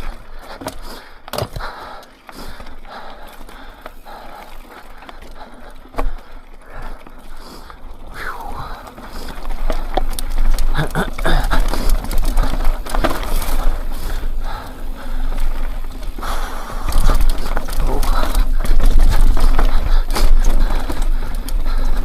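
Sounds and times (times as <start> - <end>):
bike tyres rolling on dirt trail: 0.0 - 22.0.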